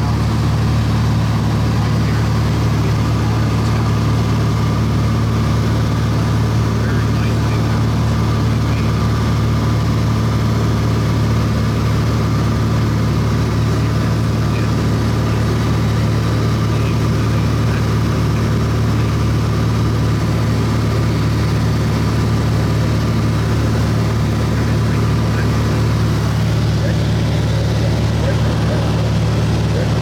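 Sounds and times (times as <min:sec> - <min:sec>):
airplane engine drone in cabin: 0:00.0 - 0:30.0.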